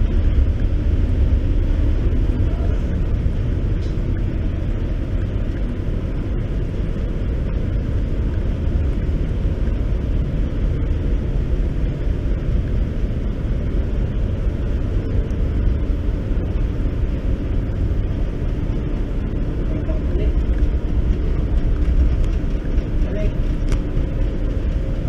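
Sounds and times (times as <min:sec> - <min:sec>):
engine-room machinery rumbling: 0:00.0 - 0:25.0.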